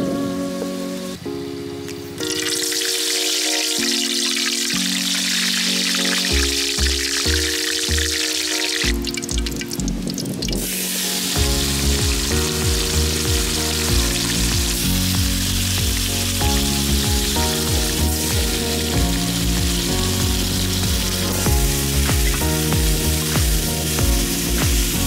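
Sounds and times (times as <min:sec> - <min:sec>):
background music: 0:00.0 - 0:25.0
chicken sizzling in hot oil: 0:02.2 - 0:25.0.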